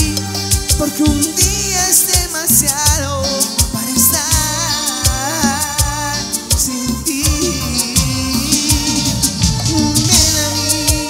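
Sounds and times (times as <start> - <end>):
band playing instrumental music: 0.0 - 11.0
bass line: 0.0 - 11.0
percussion beat: 0.0 - 11.0.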